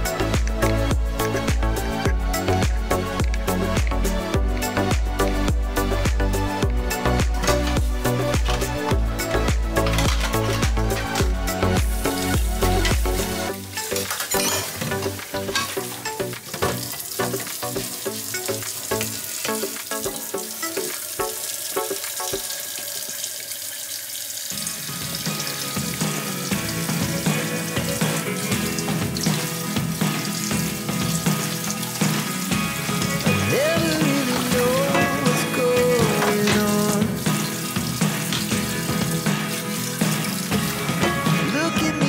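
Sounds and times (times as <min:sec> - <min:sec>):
background music: 0:00.0 - 0:42.0
water running into a sink: 0:00.3 - 0:41.5.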